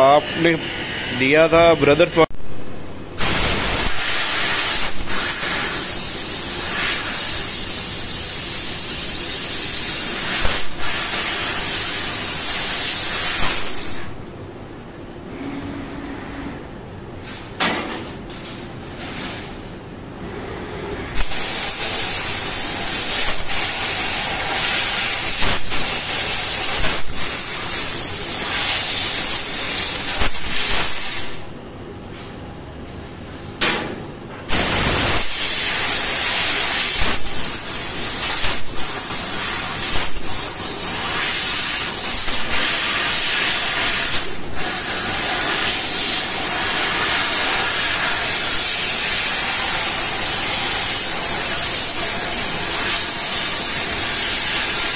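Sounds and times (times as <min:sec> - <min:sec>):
laser cutter gas hissing: 0:00.0 - 0:02.3, 0:03.2 - 0:14.2, 0:21.2 - 0:31.5, 0:34.5 - 0:54.9.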